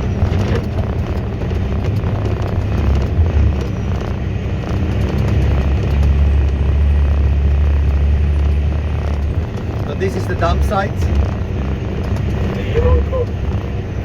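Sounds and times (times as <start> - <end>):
diesel engine drone: 0.0 - 14.0
faint rattles: 0.0 - 14.0.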